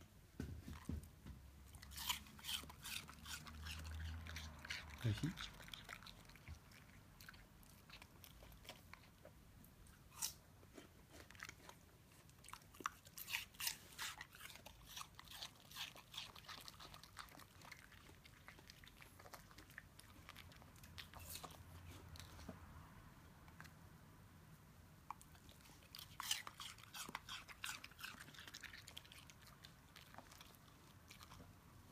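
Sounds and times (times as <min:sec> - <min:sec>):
dog crunching pear: 0:00.6 - 0:22.5, 0:25.0 - 0:31.6.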